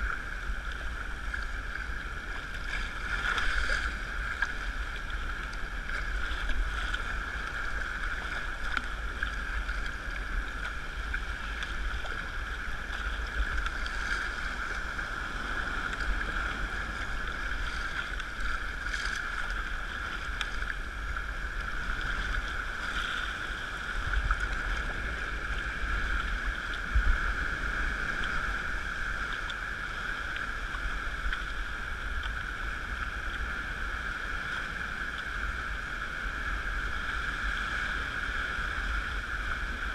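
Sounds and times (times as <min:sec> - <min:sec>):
low wind rumble: 0:00.0 - 0:39.9
water rushing past kayak: 0:00.0 - 0:39.9.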